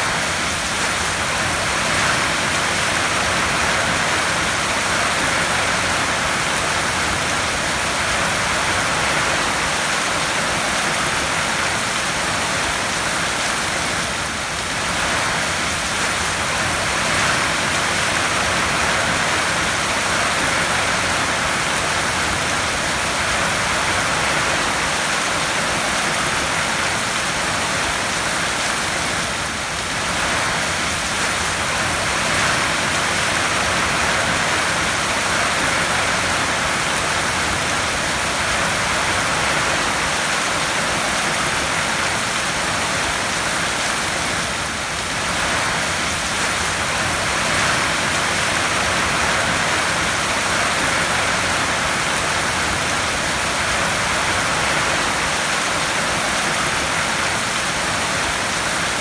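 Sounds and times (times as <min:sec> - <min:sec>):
heavy rain on tin roof: 0:00.0 - 0:59.0.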